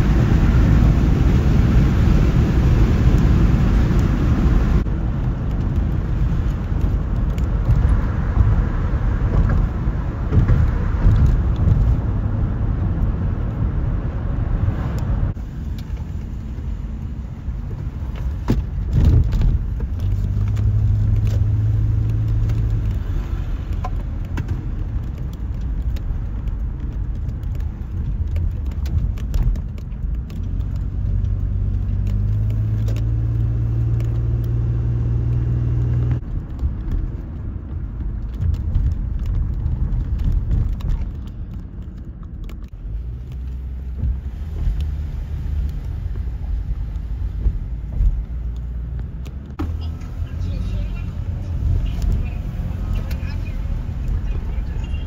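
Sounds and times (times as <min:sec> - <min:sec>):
road rumble inside car: 0:00.0 - 0:55.0.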